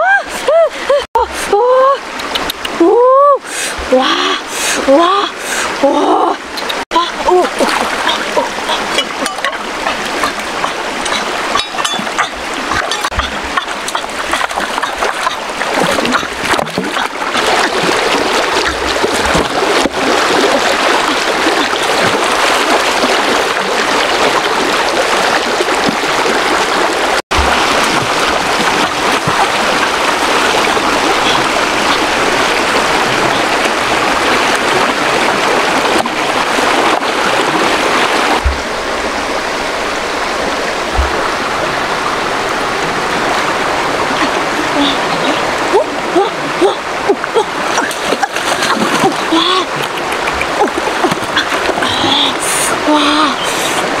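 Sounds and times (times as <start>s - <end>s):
stream running over rocks: 0.0s - 54.0s
splashing in water: 6.4s - 54.0s.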